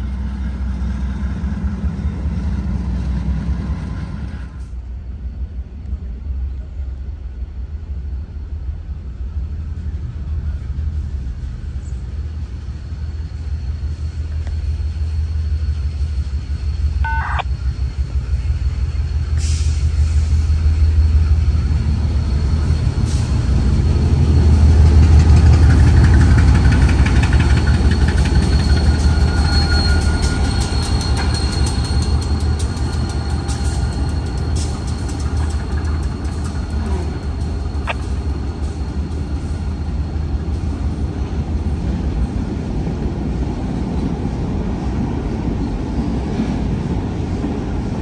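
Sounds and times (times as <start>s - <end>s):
diesel locomotives passing: 0.0s - 48.0s.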